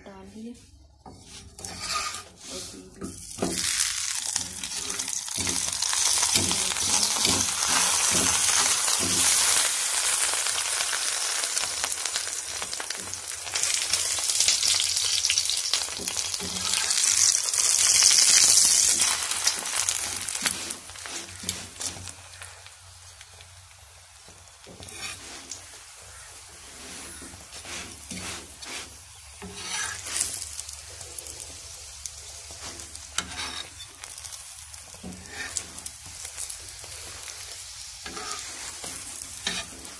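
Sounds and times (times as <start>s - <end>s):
flatbread sizzling on a griddle: 0.1s - 39.9s.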